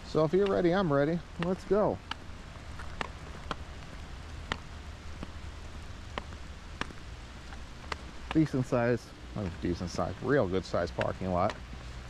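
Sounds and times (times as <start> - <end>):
rain and sleet hissing: 0.0 - 12.0.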